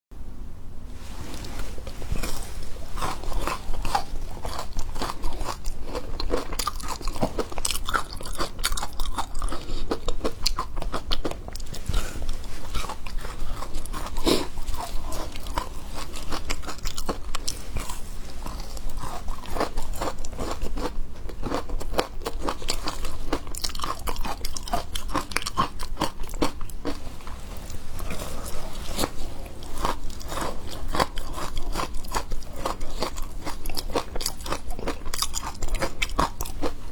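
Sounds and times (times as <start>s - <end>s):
ice being bitten and chewed: 1.3s - 36.9s.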